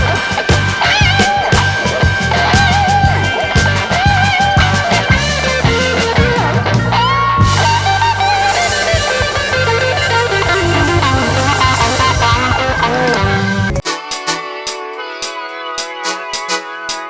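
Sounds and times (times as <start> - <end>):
rock music with guitar and drums: 0.0 - 17.0.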